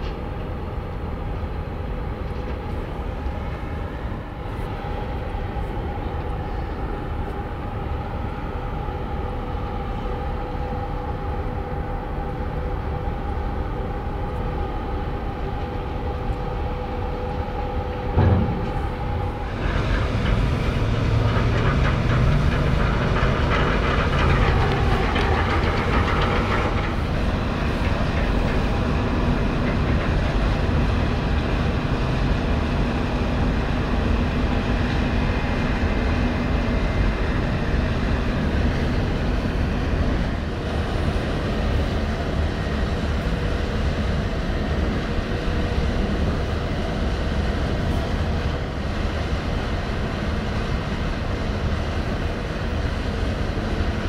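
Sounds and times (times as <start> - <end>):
ferry diesel engines rumbling: 0.0 - 54.0.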